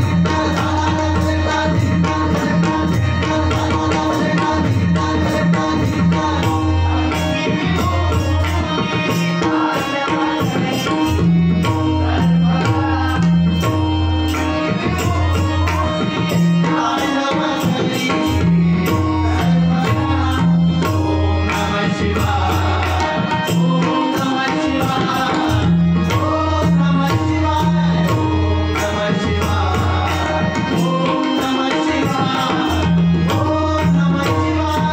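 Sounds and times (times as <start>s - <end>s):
hand drums playing: 0.0s - 34.9s
sustained melodic accompaniment: 0.0s - 34.9s.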